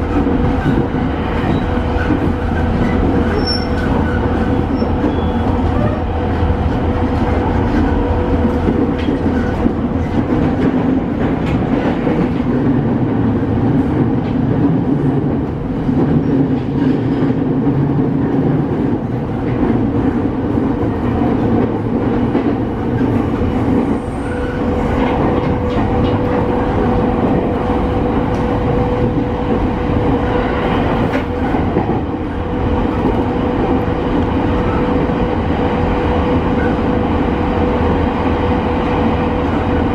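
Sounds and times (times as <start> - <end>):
rail joint clicks: 0.0 - 37.1
train wheels rumbling on rail: 0.0 - 39.9.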